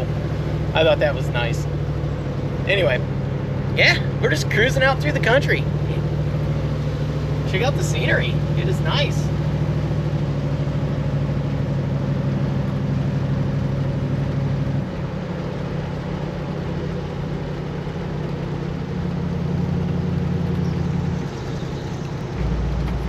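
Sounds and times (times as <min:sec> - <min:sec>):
road and wind noise: 0:00.0 - 0:23.0
van engine running: 0:00.0 - 0:23.0.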